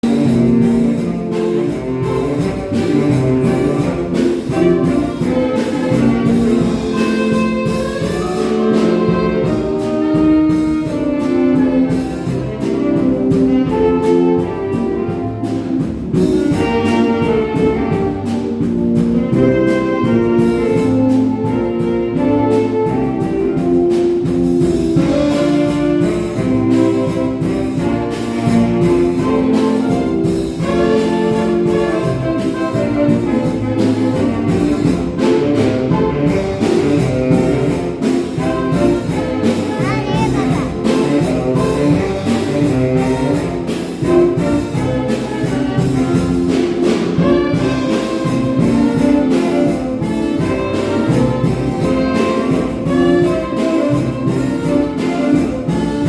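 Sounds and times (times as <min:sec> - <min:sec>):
orchestra with brass: 0:00.0 - 0:56.0
steady beat: 0:00.0 - 0:56.0.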